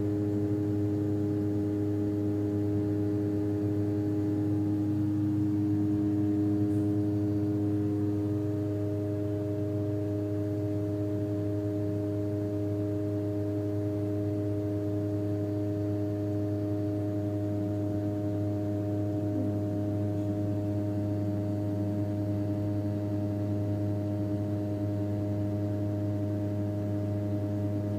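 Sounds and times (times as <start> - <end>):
airplane engine droning: 0.0 - 23.7.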